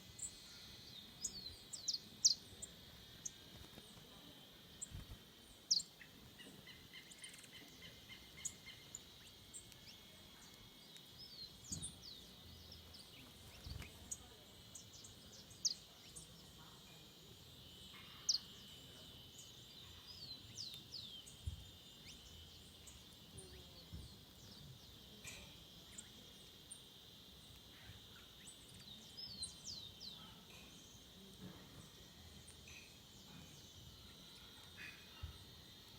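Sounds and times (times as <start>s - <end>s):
steady high hum: 0.0s - 35.9s.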